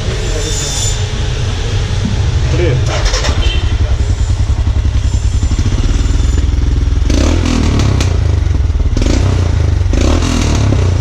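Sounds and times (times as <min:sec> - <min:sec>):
motorcycle engine thumping: 0:01.8 - 0:11.0.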